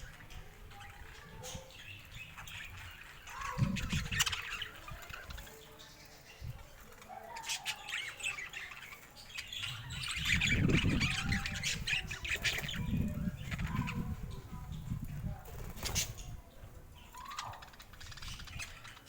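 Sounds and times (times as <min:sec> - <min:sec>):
parakeets chirping and squawking: 0:00.0 - 0:16.4, 0:17.0 - 0:19.0.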